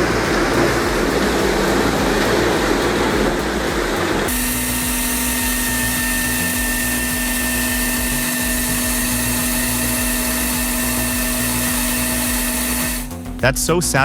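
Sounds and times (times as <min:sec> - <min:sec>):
rumbling sound: 0:00.0 - 0:12.2
machine whining: 0:00.0 - 0:14.0.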